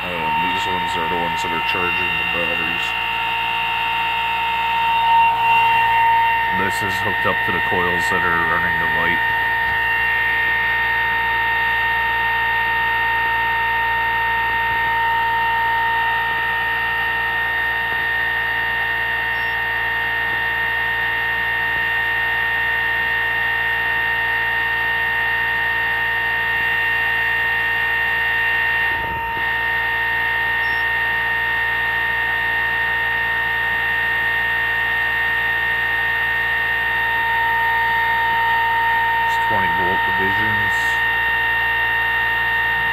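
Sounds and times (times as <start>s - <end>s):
motor whine: 0.0s - 42.9s.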